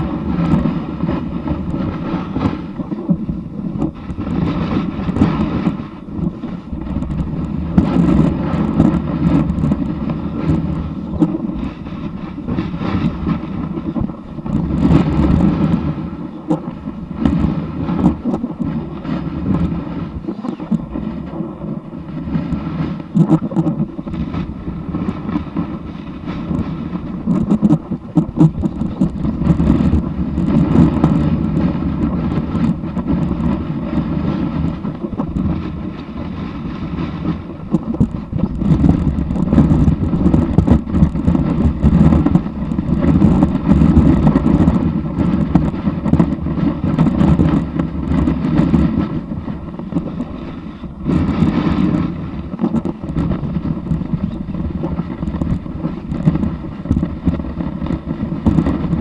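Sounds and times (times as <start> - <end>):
snowboard sliding over packed snow: 0.0 - 59.0
wind on the microphone: 0.0 - 59.0.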